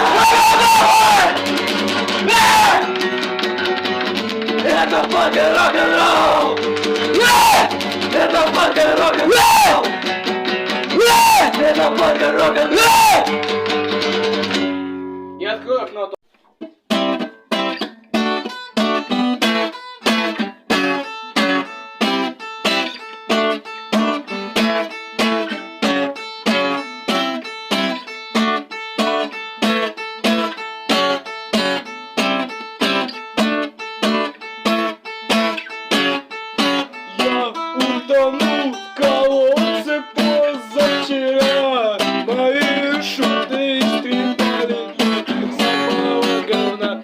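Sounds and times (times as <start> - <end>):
acoustic guitar strumming chords: 0.0 - 47.0.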